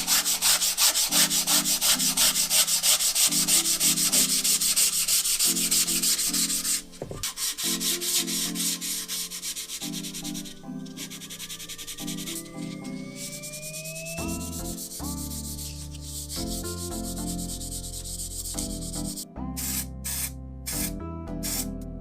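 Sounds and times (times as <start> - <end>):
sandpaper rubbing on metal: 0.0 - 21.7.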